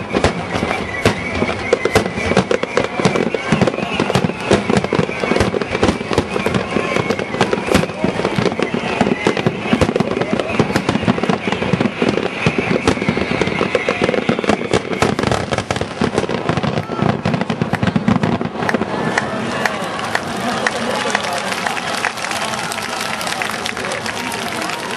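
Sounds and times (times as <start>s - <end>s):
fireworks booming and crackling: 0.0s - 24.9s.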